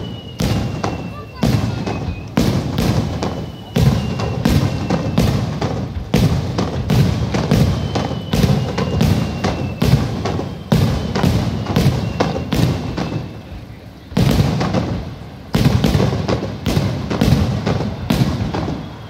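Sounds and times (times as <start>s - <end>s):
firework shells bursting: 0.0s - 19.0s.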